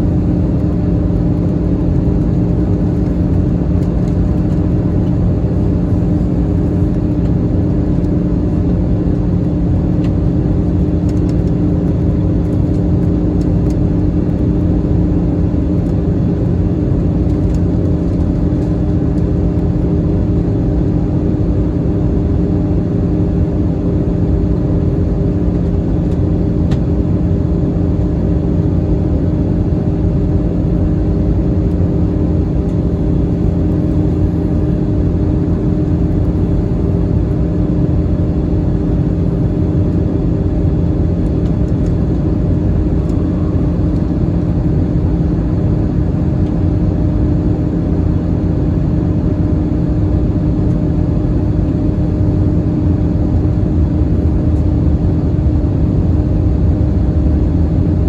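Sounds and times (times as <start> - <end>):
jet engines humming: 0.0 - 48.2.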